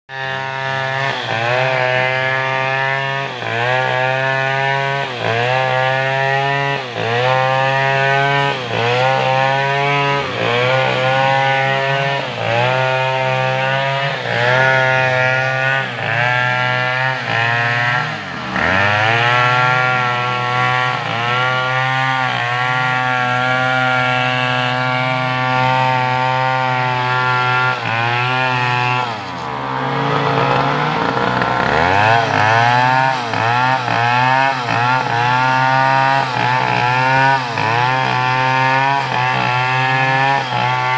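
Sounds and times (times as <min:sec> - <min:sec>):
chainsaw cutting wood: 0:00.1 - 0:40.9.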